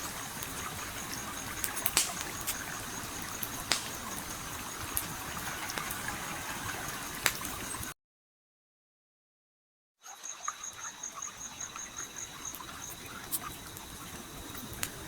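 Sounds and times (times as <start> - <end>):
campfire crackling and popping: 0.0 - 7.9, 10.7 - 15.0
flowing stream: 0.0 - 7.9, 10.1 - 15.0.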